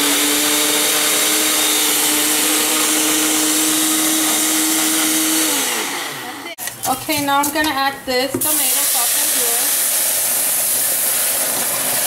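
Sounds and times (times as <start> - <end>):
blender motor running: 0.0 - 6.6, 8.5 - 12.0.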